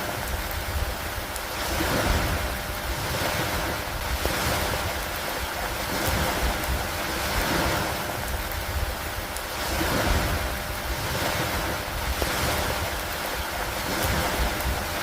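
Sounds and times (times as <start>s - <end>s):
steady rain falling: 0.0s - 15.0s
wind rumbling: 0.0s - 15.0s.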